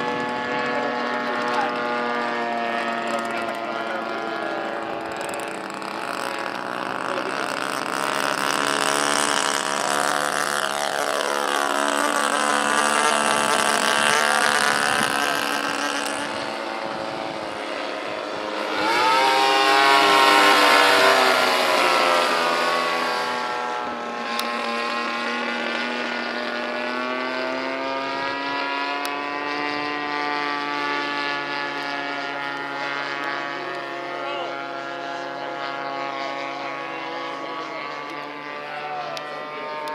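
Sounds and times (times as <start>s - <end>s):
model plane engines: 0.0s - 39.9s.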